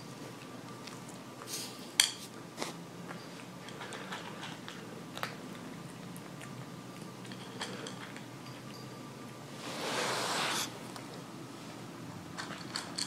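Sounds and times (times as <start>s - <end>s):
kitten crunching kibble: 0.1s - 11.3s.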